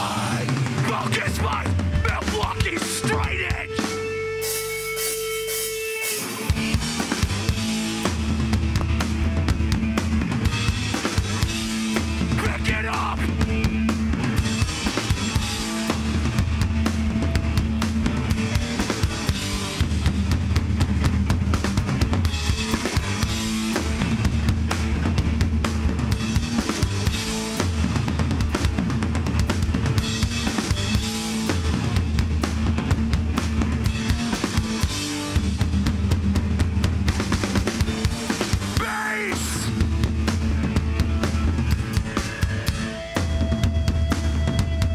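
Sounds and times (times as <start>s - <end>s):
hardcore band playing live: 0.0s - 44.9s.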